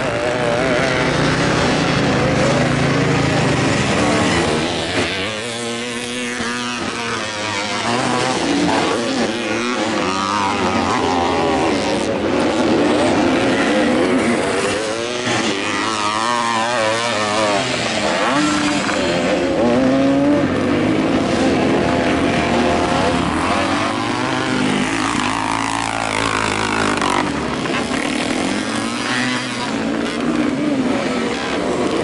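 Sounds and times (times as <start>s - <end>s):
motocross motorcycles revving: 0.0s - 32.0s.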